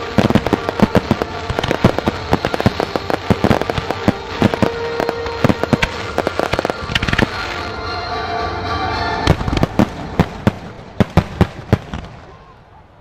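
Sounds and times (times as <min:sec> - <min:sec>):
music: 0:00.0 - 0:11.0
fireworks bursting: 0:00.0 - 0:12.5.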